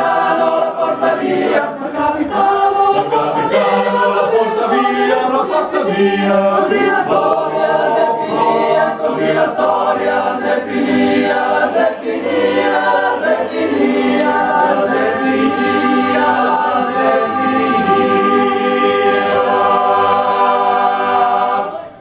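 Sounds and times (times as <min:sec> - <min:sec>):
male choir singing a cappella: 0:00.0 - 0:22.0.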